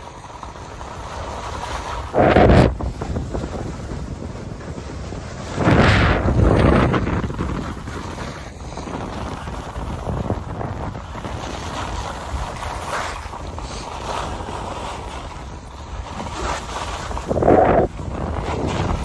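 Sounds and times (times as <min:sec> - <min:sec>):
skis scraping on snow: 0:00.0 - 0:19.0
wind rushing over microphone: 0:00.8 - 0:19.0.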